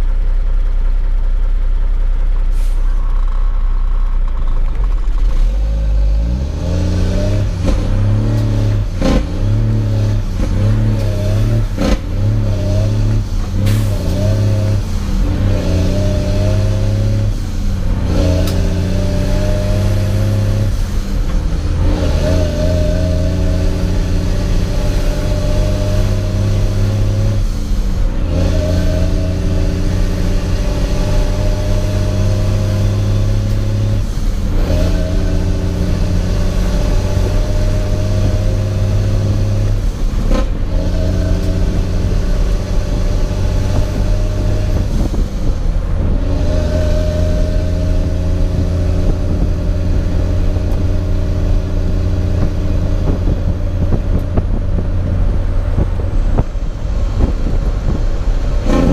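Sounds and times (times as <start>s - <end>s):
diesel truck engine: 0.0s - 58.9s.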